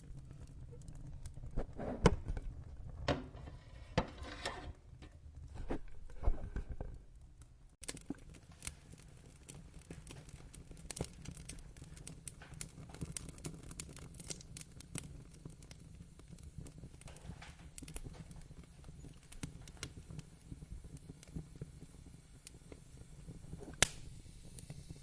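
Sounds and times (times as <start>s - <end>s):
low rumble of burning: 0.0s - 25.0s
wood fire crackling: 0.0s - 25.0s.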